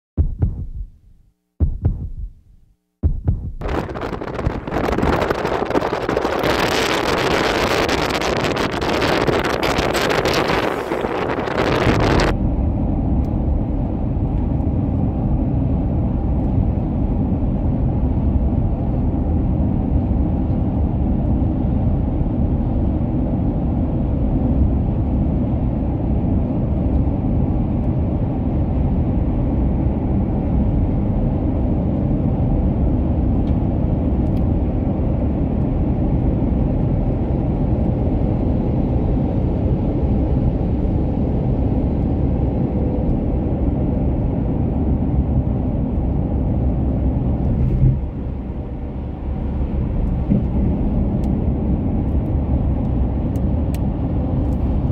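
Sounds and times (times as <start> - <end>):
vehicle tyre and engine noise: 3.6 - 54.9.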